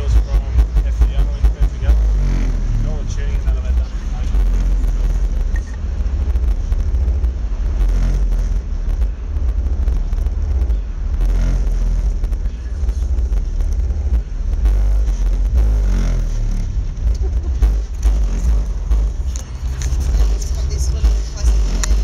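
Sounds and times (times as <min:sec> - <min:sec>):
deep subwoofer bass rumble: 0:00.0 - 0:22.0.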